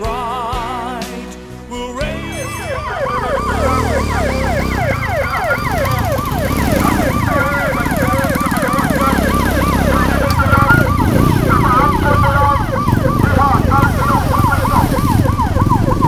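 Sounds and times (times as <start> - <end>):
electronic siren yelping: 2.2 - 16.0
running engines: 2.3 - 16.0.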